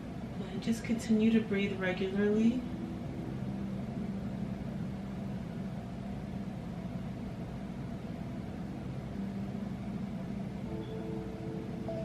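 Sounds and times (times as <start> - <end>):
soft ambient droning music: 0.0 - 12.0.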